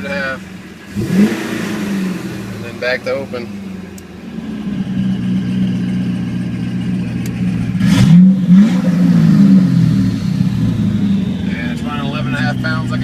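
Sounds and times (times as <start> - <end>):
engine revving with rushing hiss: 0.0 - 5.9, 7.6 - 13.0
car engine idling: 0.0 - 13.0.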